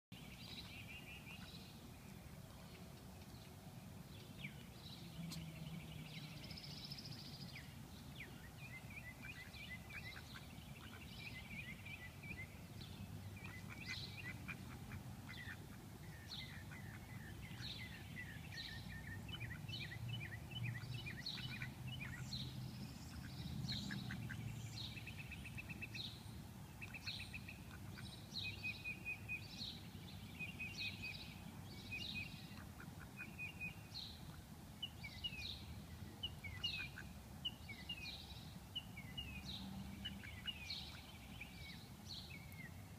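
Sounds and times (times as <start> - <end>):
songbirds chirping and trilling: 0.1 - 42.9.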